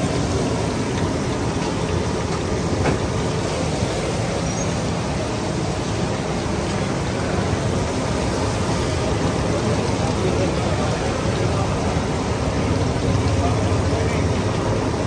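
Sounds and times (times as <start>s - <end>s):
fish deep-frying in hot oil: 0.0s - 15.0s.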